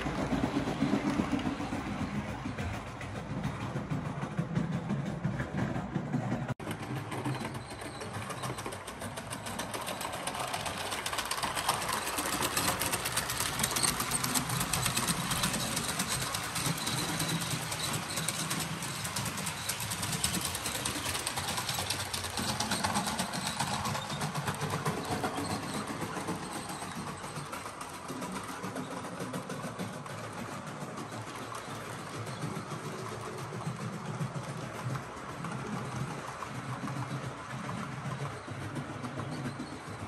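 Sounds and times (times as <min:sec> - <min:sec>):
model train wheels clicking: 0:00.0 - 0:40.0.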